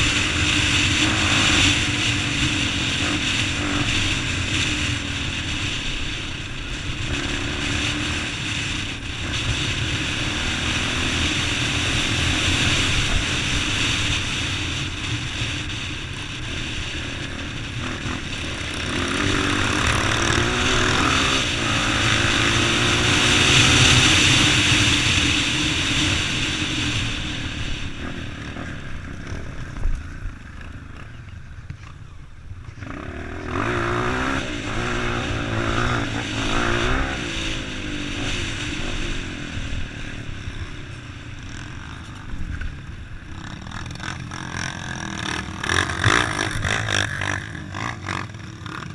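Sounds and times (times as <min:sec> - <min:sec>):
motorcycle engine running: 0:00.0 - 0:48.9
steady rush of noise: 0:00.0 - 0:48.9.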